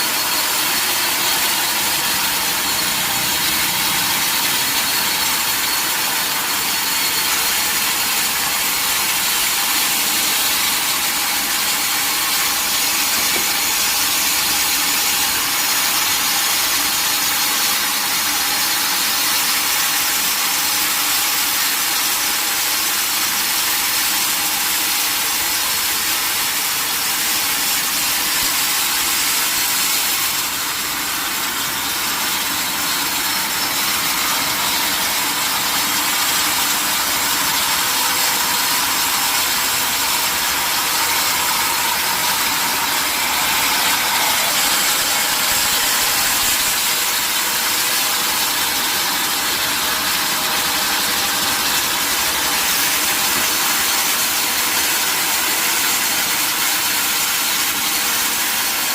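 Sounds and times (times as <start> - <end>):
sawmill saw cutting a log: 0.0 - 58.9.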